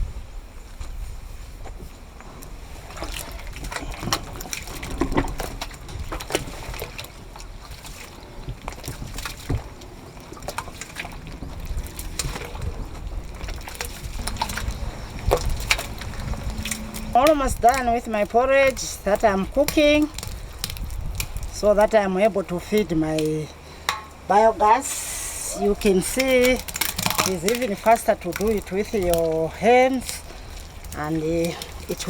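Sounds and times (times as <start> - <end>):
hands mixing wet slurry: 2.3 - 32.0
wet splashes: 2.4 - 32.0.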